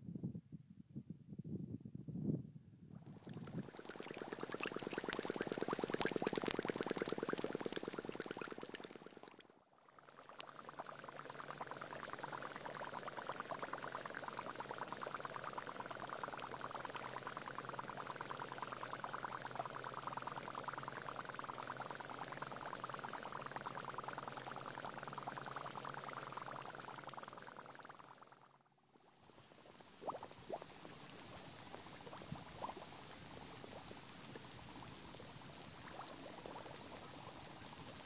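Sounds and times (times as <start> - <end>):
air bubbles fizzing and popping: 3.0 - 38.0.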